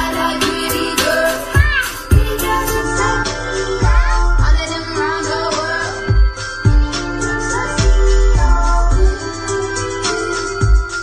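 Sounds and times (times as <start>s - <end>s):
deep bass hits: 0.0s - 9.4s
person singing: 0.0s - 11.0s
sustained synth tones: 0.0s - 11.0s.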